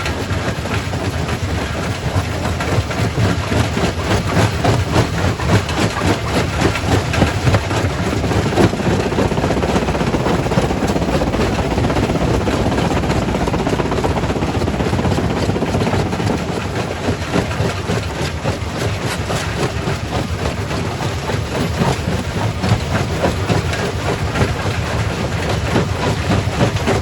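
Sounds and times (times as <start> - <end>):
rock crusher rumbling: 0.0 - 27.0.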